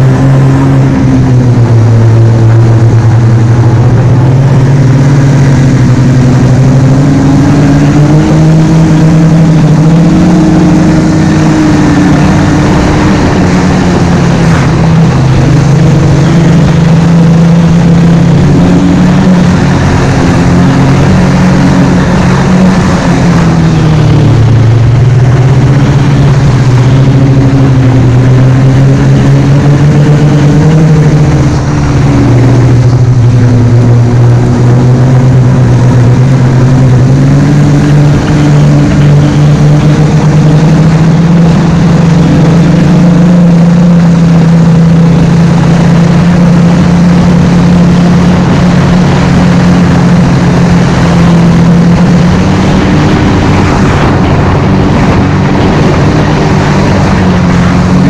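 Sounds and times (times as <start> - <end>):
snowmobile engine drone: 0.0 - 58.0.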